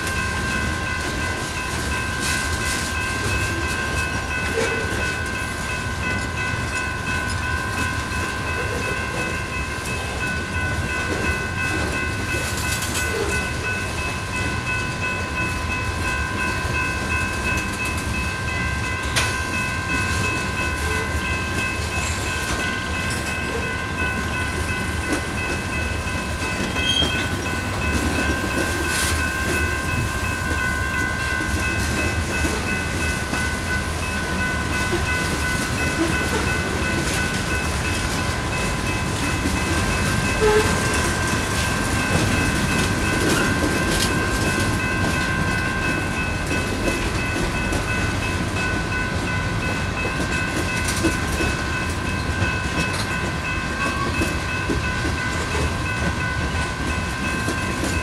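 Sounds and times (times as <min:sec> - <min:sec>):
high-pitched ringing tone: 0:00.0 - 0:58.0
train wheels rumbling on track: 0:00.0 - 0:58.0.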